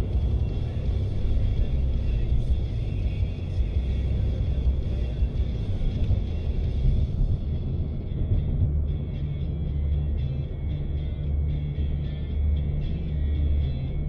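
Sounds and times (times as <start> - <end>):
car engine and road rumble: 0.0 - 14.0
faint car radio music: 0.0 - 14.0.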